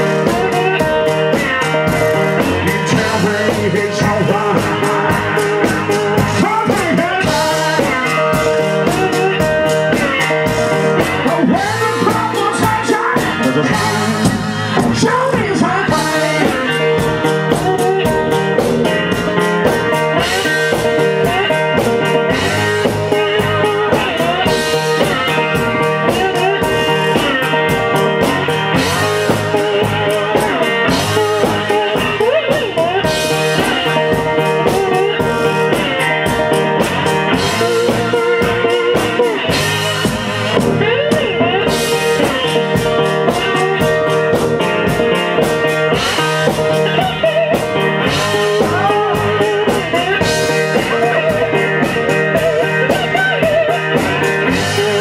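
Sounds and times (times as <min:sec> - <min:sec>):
blues band playing: 0:00.0 - 0:55.0.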